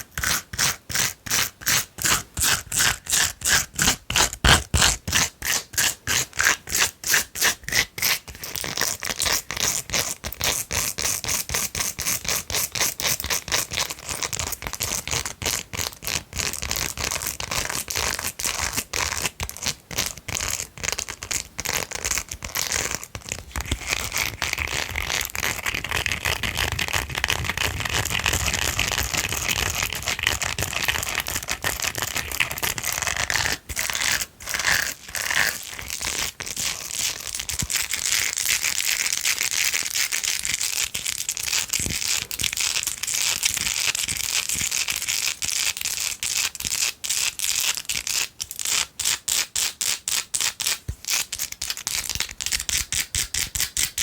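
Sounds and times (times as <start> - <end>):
nails scratching silicone brush: 0.0 - 54.0.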